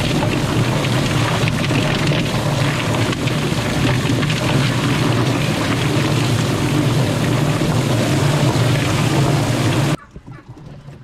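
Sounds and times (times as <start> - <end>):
poultry plucker motor hum: 0.0 - 11.0.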